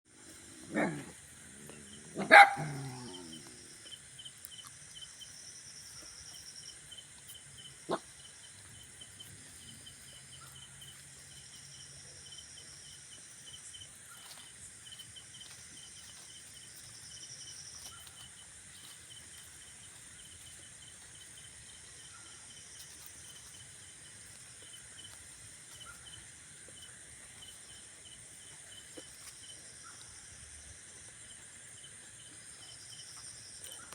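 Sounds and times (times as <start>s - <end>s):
insects chirping: 0.2s - 33.9s.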